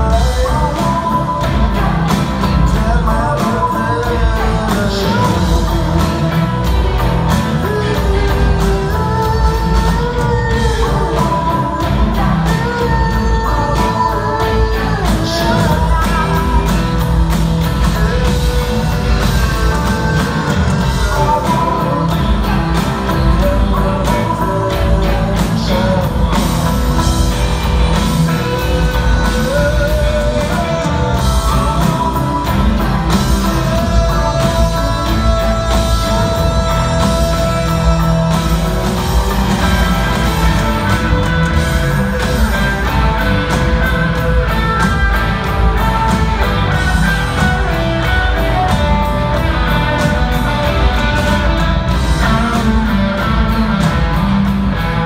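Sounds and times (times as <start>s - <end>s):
drums: 0.0s - 55.0s
electric guitars: 0.0s - 55.0s
person singing: 0.0s - 55.0s.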